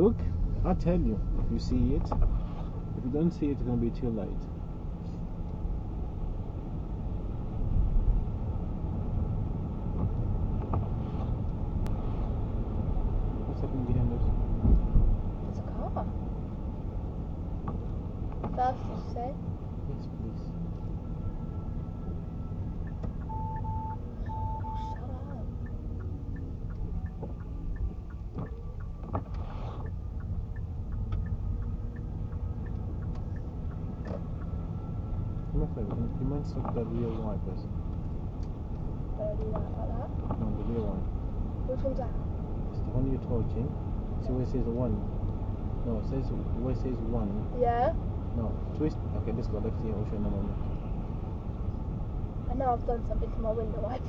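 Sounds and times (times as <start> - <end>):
car engine and road noise: 0.0 - 54.0
turn signal ticking: 0.0 - 54.0.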